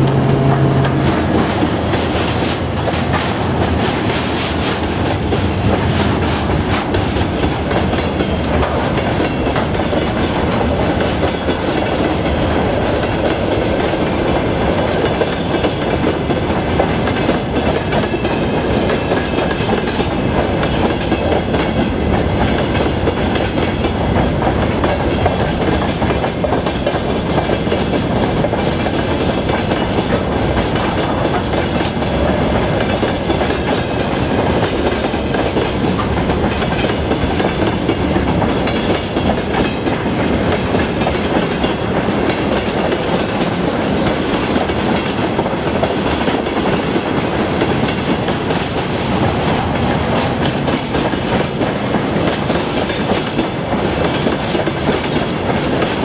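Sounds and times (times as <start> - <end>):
freight cars rumbling and rattling: 0.0 - 56.0.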